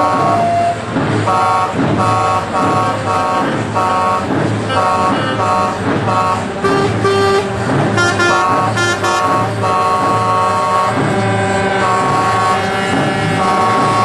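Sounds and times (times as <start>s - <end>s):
diesel engines humming: 0.0s - 14.0s
truck air horns: 0.0s - 14.0s.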